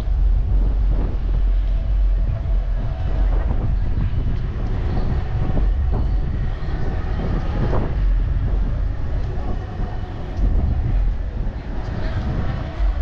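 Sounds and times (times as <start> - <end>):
faint outdoor bustle: 0.0 - 13.0
wind buffeting microphone: 0.0 - 13.0.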